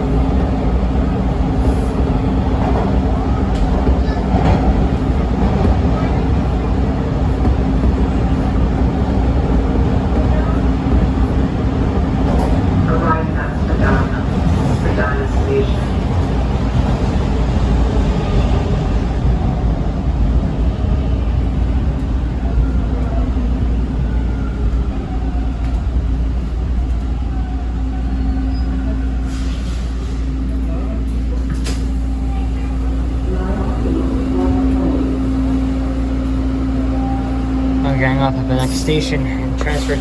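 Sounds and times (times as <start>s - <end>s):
subway train wheels rumbling: 0.0s - 40.0s.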